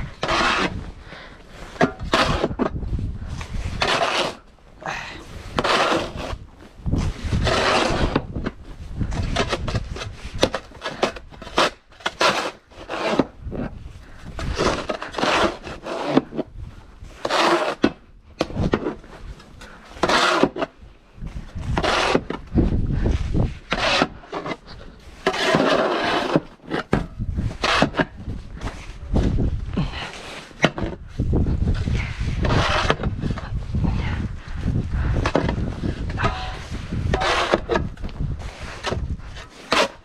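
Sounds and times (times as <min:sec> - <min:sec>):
snow shovel scraping snow: 0:00.0 - 0:02.7, 0:03.3 - 0:08.4, 0:09.0 - 0:13.4, 0:14.4 - 0:16.4, 0:17.0 - 0:18.0, 0:18.6 - 0:34.2, 0:35.2 - 0:40.0.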